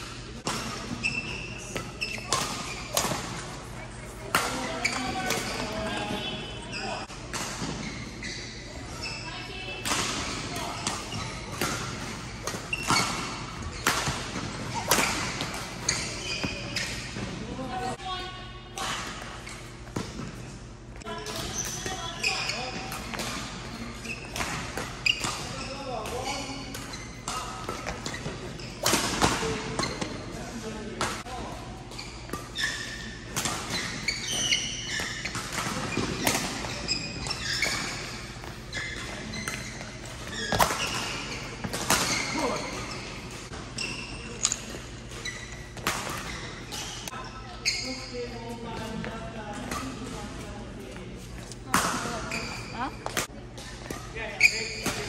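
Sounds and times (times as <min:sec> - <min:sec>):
shoe squeaks on court floor: 0:00.5 - 0:09.6, 0:10.5 - 0:17.2, 0:21.3 - 0:30.5, 0:31.8 - 0:50.3, 0:51.2 - 0:55.0.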